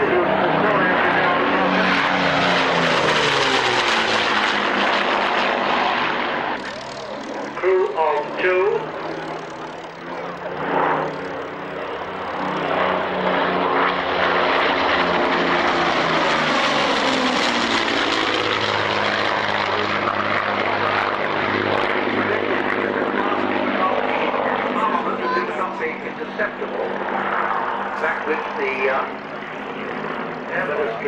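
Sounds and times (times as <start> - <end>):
aircraft engines passing: 0.0 - 31.0.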